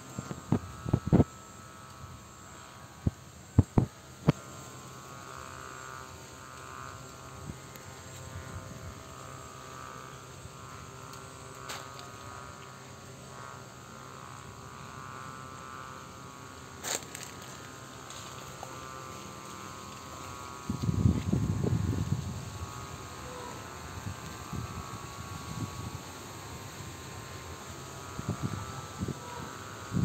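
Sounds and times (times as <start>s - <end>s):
faint high humming: 0.0s - 30.0s
steady background hum: 0.0s - 30.0s.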